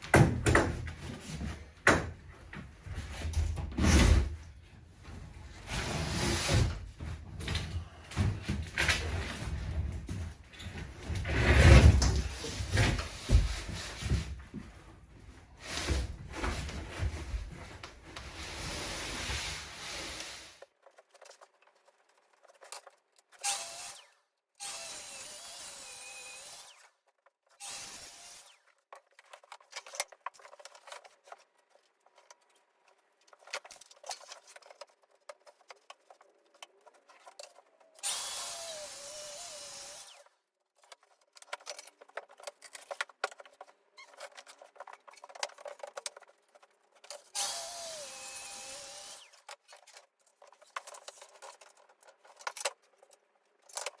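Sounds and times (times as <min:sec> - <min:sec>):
dense workshop noise: 0:00.0 - 0:54.0.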